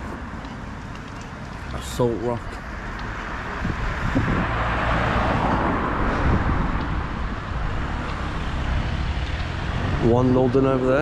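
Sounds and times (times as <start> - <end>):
steady low rumble: 0.0 - 10.1
car passing: 0.0 - 11.0.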